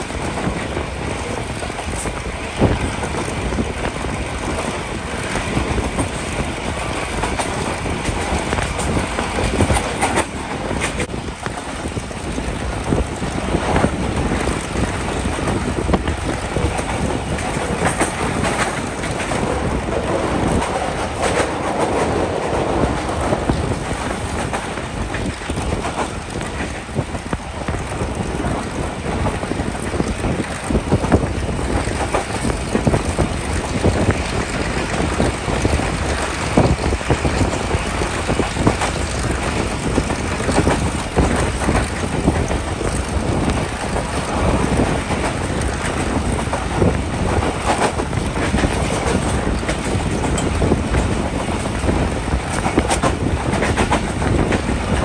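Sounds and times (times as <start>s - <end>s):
train wheels clattering: 0.0s - 55.0s.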